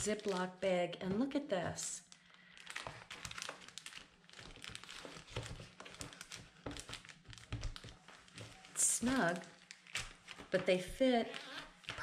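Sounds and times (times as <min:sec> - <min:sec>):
plastic bag crinkling: 0:00.0 - 0:00.6, 0:02.1 - 0:12.0.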